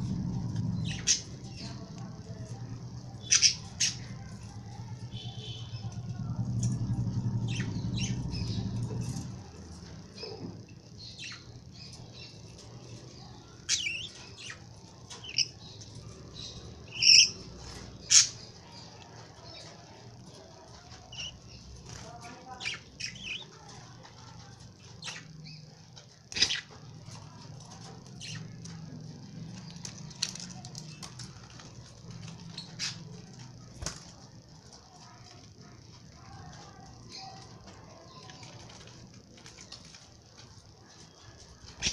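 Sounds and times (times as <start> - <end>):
birds tapping and scuffling: 0.0 - 41.9
lovebirds chirping and squeaking: 0.0 - 41.9
steady low hum: 0.0 - 41.9.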